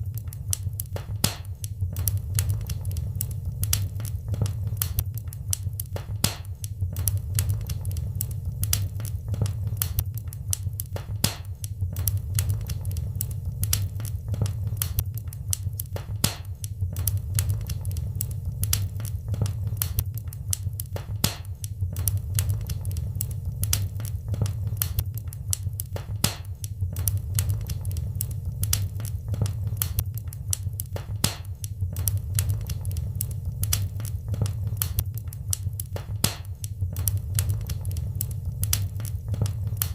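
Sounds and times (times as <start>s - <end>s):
wood fire crackling: 0.0s - 39.9s
steady low rumble: 1.8s - 6.2s, 6.8s - 11.1s, 11.8s - 16.2s, 16.8s - 21.2s, 21.8s - 26.1s, 26.8s - 31.2s, 31.8s - 36.2s, 36.8s - 39.9s.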